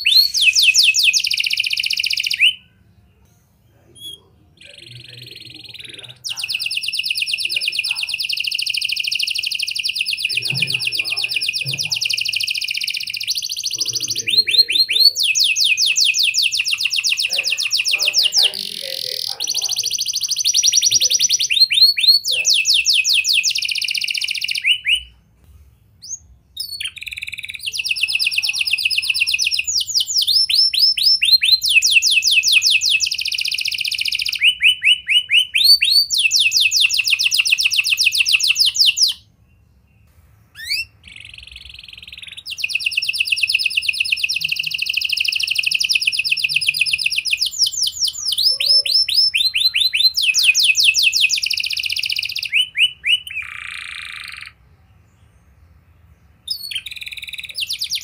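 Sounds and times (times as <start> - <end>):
canary singing rolling trills: 0.0 - 58.0.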